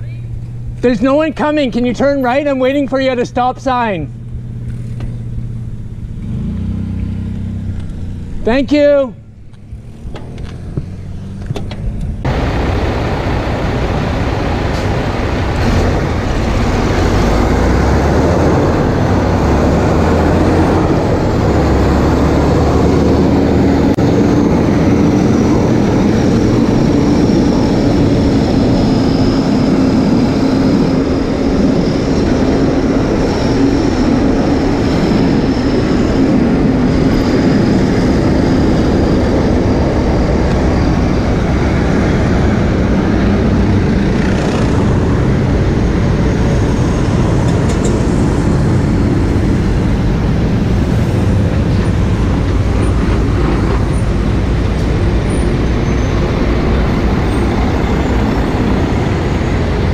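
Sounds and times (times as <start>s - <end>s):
passing road traffic: 0.0s - 59.9s
trucks humming with high whine: 0.0s - 59.9s.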